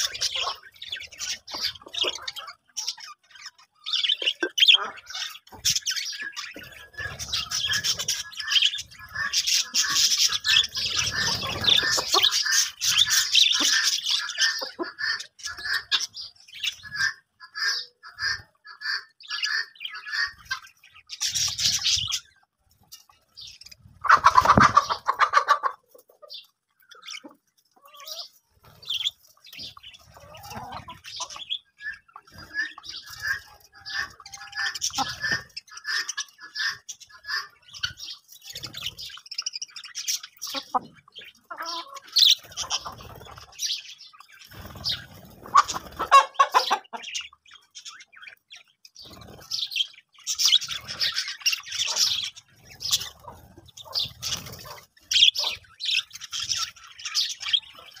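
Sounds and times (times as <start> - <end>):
budgerigars chattering and chirping: 0.0 - 58.0.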